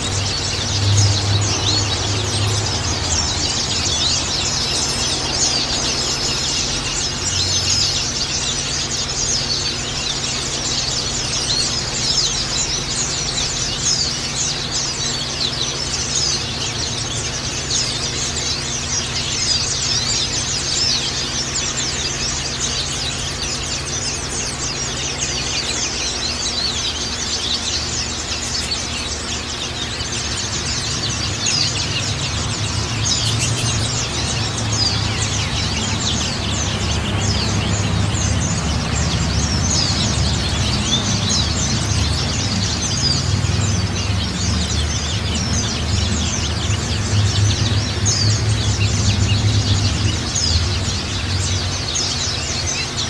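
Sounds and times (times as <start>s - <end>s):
birds chirping and twittering: 0.0s - 53.0s.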